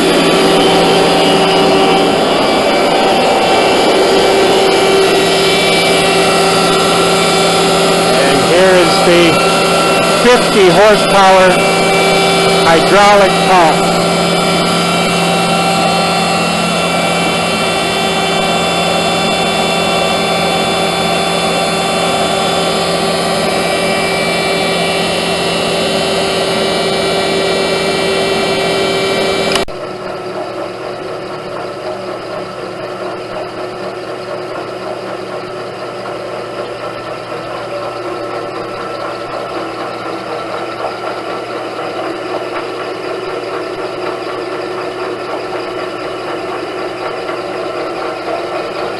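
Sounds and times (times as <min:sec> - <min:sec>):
hydraulic pump humming and whining: 0:00.0 - 0:48.9
uneven machine noise: 0:00.0 - 0:48.9.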